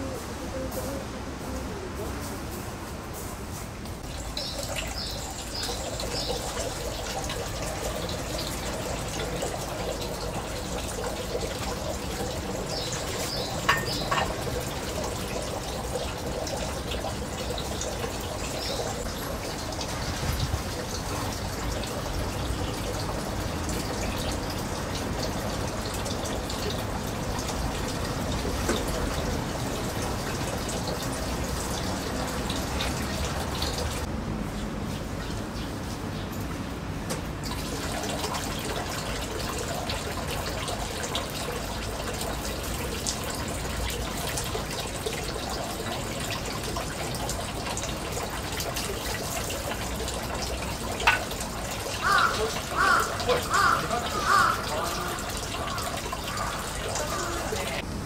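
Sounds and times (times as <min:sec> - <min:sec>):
water pouring into stone basin: 0:04.0 - 0:34.1, 0:37.4 - 0:58.0.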